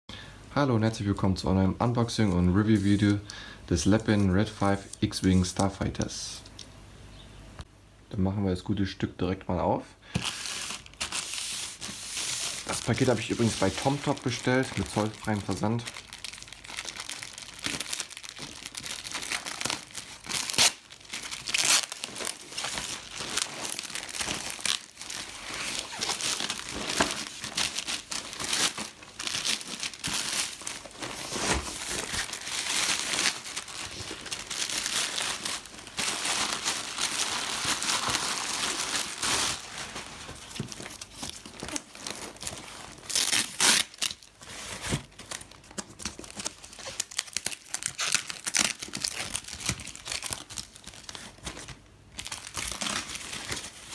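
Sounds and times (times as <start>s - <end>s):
packaging crinkling and tearing: 10.2s - 53.9s.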